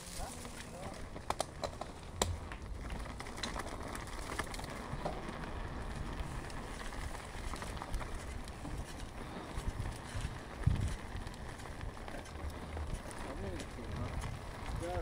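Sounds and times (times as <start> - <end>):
bike clicks and rattles: 0.0 - 15.0
bike tyres crackling on track: 0.0 - 15.0
wind rumble on microphone: 1.0 - 15.0.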